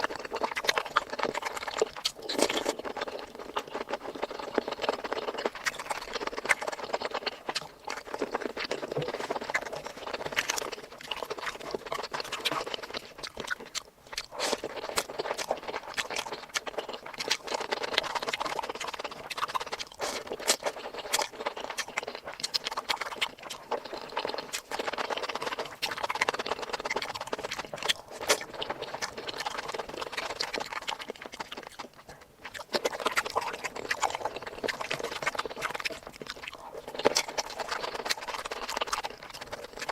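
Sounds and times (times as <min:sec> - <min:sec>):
chewing with mouth clicks: 0:00.0 - 0:39.9
lip smacks: 0:00.0 - 0:39.9
small crackles: 0:00.0 - 0:39.9.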